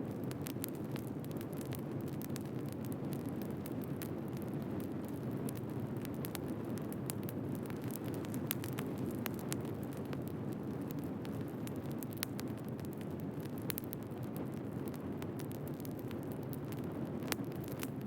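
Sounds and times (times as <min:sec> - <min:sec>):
low rush of flame: 0:00.0 - 0:18.0
wood fire crackling: 0:00.0 - 0:18.0.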